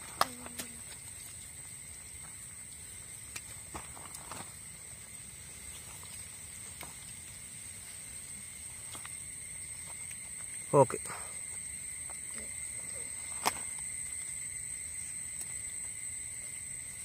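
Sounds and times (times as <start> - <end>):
insect chirring: 0.0 - 17.0.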